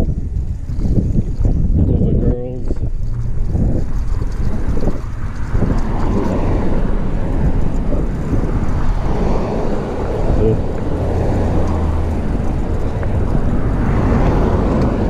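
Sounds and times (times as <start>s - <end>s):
wind and road rumble: 0.0s - 15.0s.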